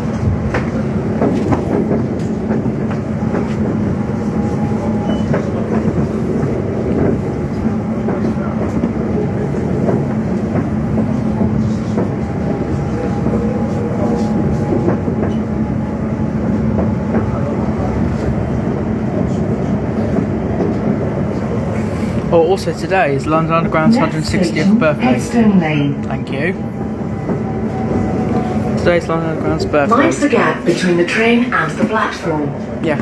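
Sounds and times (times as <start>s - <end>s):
train hum: 0.0s - 33.0s
train wheels rumbling on rails: 0.0s - 33.0s.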